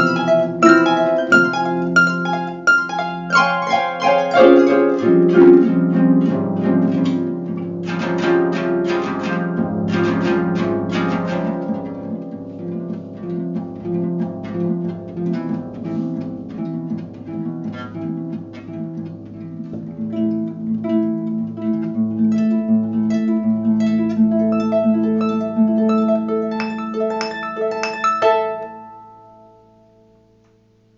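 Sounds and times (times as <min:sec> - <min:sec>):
harp playing: 0:00.0 - 0:29.8.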